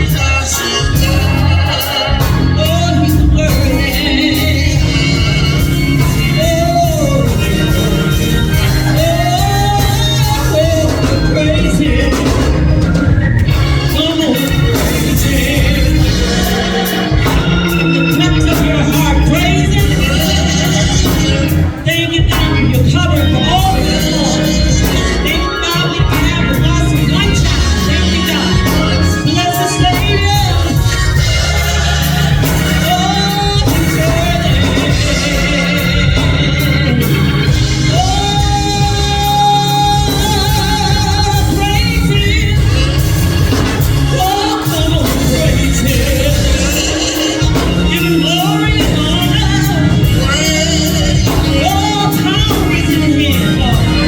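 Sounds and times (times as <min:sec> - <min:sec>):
bass: 0:00.0 - 0:54.0
drum and cymbal beat: 0:00.0 - 0:54.0
electric organ chords: 0:00.0 - 0:54.0
people singing: 0:00.0 - 0:54.0.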